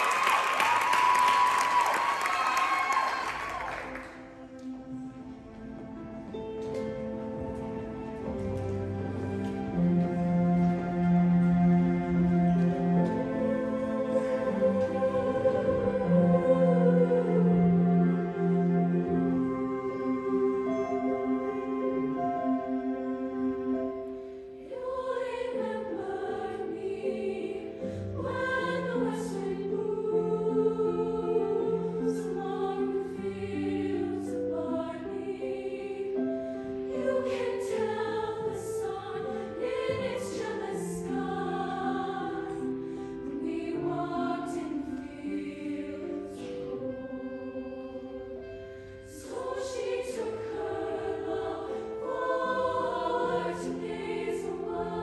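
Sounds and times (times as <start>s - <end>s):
choir singing held chords: 0.0s - 55.0s.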